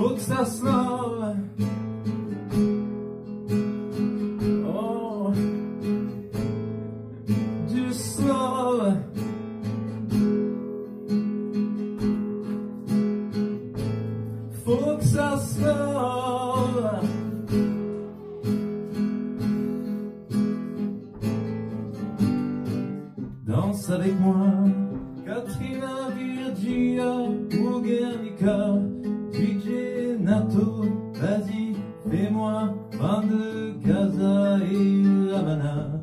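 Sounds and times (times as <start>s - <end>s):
acoustic guitar strumming: 0.0s - 36.0s.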